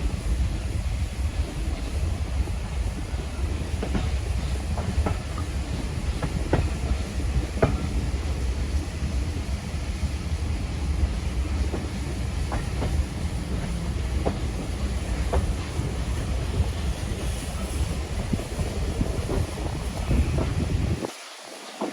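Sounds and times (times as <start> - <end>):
train carriage rumbling on rails: 0.0 - 21.9.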